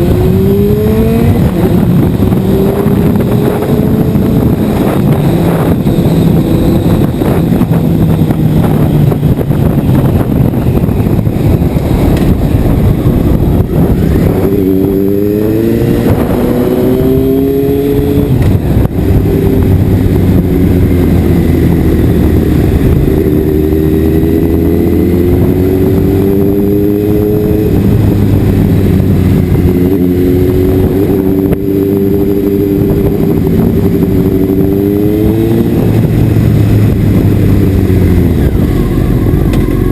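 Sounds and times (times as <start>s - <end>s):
motorcycle engine shifting gears: 0.0s - 39.9s
wind rush on microphone: 0.0s - 39.9s.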